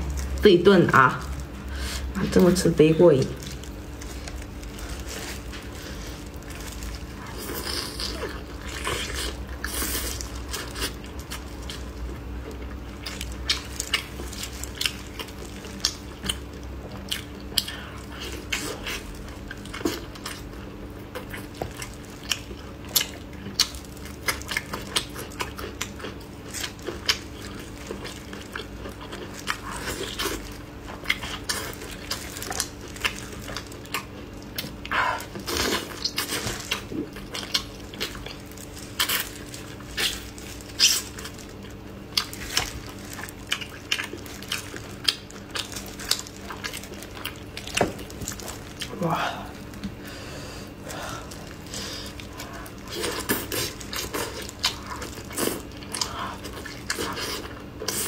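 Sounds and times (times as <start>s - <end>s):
person chewing ribs: 0.0s - 0.4s, 3.3s - 58.0s
low steady hum: 0.0s - 58.0s.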